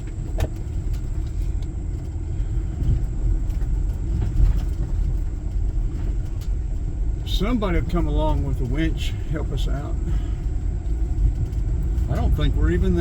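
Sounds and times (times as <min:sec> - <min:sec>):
vehicle rumbling on dirt road: 0:00.0 - 0:13.0.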